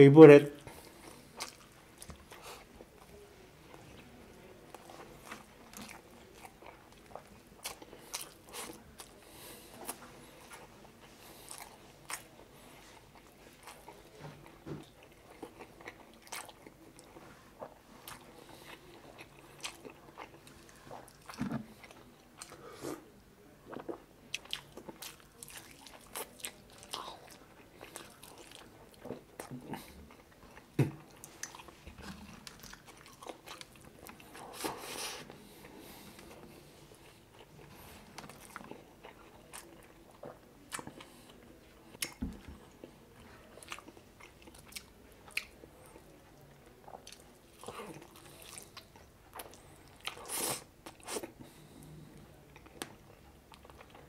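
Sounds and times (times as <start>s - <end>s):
person chewing food: 0.6s - 3.0s, 4.7s - 23.0s, 23.7s - 54.0s.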